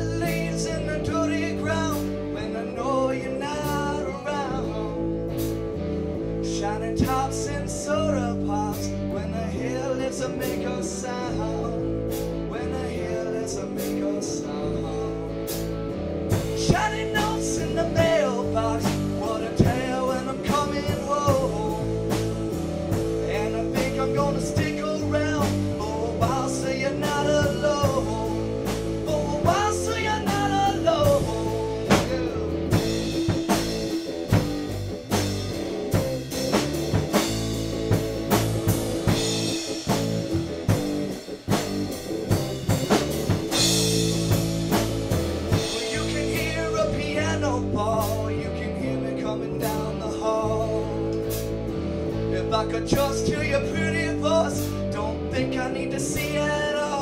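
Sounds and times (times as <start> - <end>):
song with singing and guitar: 0.0 - 57.0.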